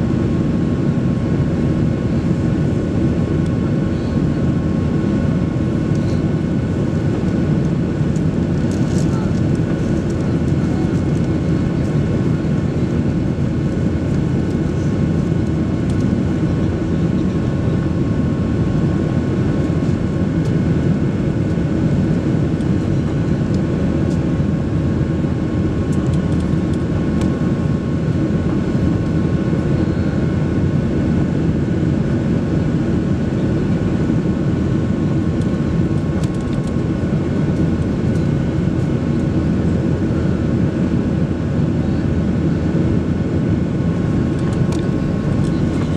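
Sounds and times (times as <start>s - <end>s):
airliner cabin roar: 0.0s - 45.9s.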